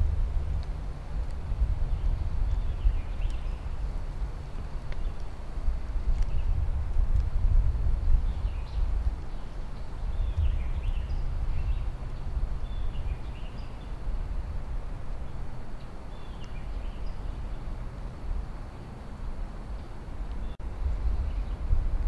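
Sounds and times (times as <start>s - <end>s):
songbird chirps: 0.6s - 5.4s, 6.1s - 6.6s, 7.9s - 21.8s.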